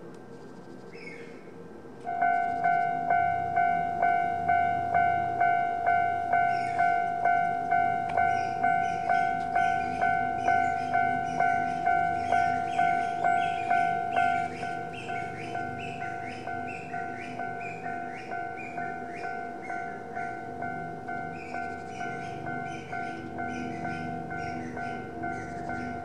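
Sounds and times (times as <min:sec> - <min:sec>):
two-tone electronic crossing bell: 0:02.1 - 0:26.0.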